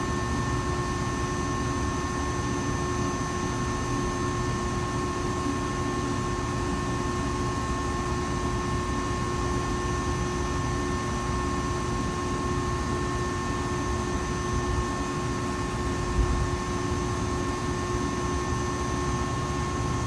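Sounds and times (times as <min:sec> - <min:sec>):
cooling fans rushing: 0:00.0 - 0:20.0
electrical hum: 0:00.0 - 0:20.0.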